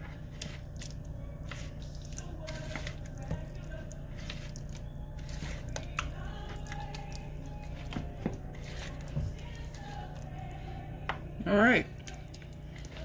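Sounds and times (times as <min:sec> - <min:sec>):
steady low hum: 0:00.0 - 0:13.0
wet squelches of mixing marinade: 0:00.0 - 0:13.0.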